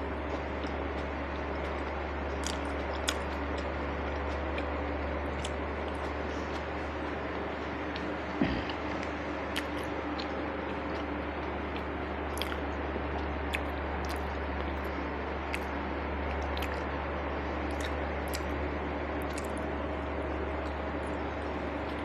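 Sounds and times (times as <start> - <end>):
person chewing food: 0.0 - 17.0, 17.6 - 18.6, 19.2 - 22.0
low background hum: 0.0 - 22.0.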